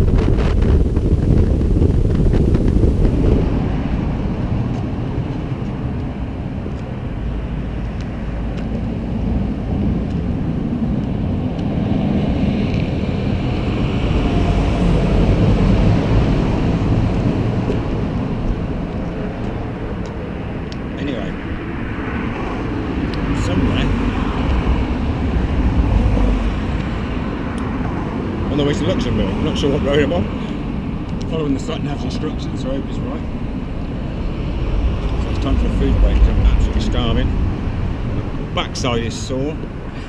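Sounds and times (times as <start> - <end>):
motorcycle riding at speed: 0.0 - 40.0
wind buffeting microphone: 0.0 - 40.0.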